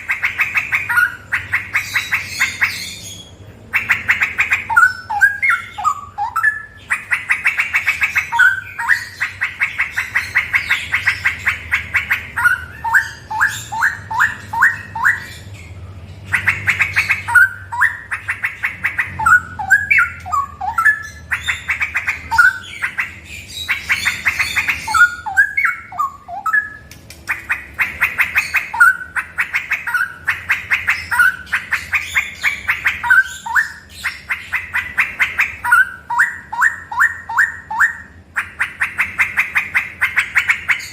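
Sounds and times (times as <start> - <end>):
bird singing rich notes: 0.0 - 40.9.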